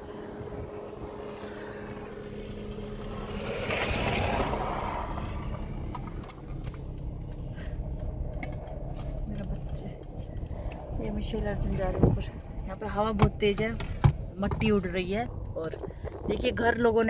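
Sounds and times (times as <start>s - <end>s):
car engine hum: 0.0s - 17.0s
road rumble: 0.0s - 17.0s.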